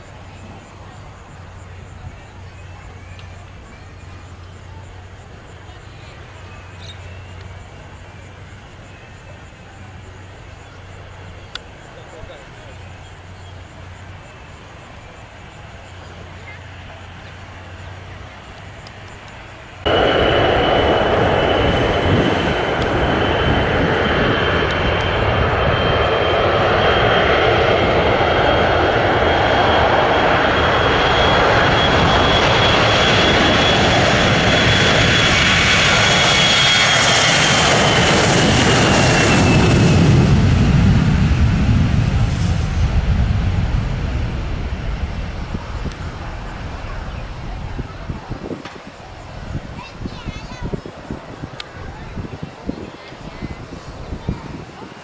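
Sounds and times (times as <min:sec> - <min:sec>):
airliner engines passing: 0:00.0 - 0:55.0.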